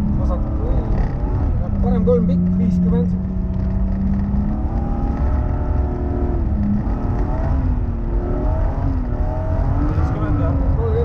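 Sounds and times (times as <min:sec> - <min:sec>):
rally car engine running hard: 0:00.0 - 0:11.0
tyres rumbling on gravel road: 0:00.0 - 0:11.0.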